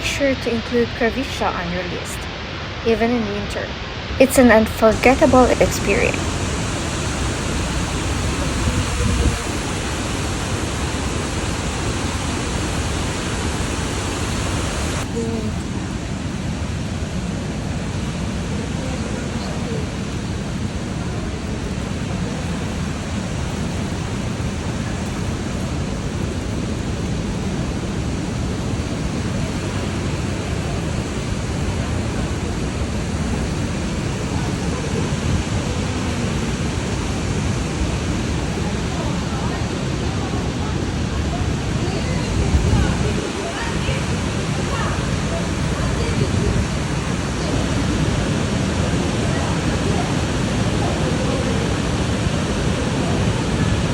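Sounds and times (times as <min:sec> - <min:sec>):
waterfalls cascading: 0:00.0 - 0:53.9.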